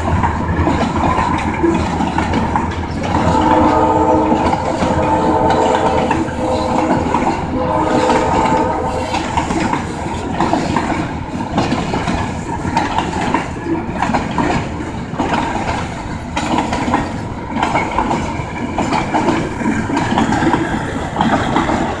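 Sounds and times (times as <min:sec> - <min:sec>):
train wheels clattering: 0:00.0 - 0:22.0.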